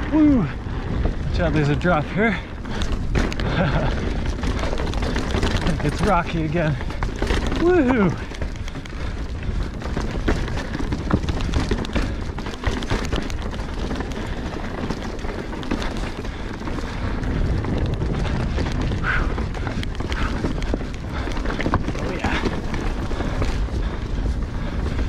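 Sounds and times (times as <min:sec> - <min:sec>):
bike knocks and rattles: 0:00.0 - 0:25.0
tyres crunching over loose rock: 0:00.0 - 0:25.0
wind on microphone: 0:00.0 - 0:25.0.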